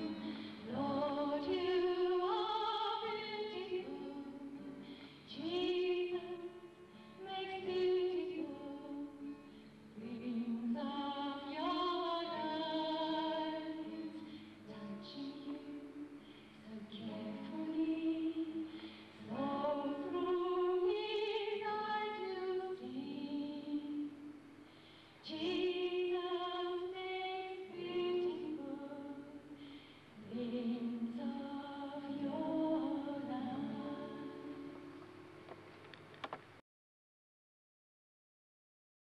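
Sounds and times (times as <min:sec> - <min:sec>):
woman singing slow song: 0:00.0 - 0:24.4, 0:25.2 - 0:35.0.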